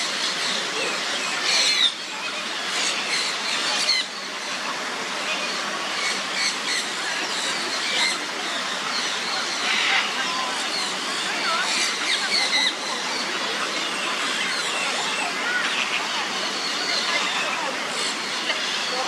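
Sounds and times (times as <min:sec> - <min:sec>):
birds giving high squeaky calls: 0:00.0 - 0:04.5, 0:05.2 - 0:19.0.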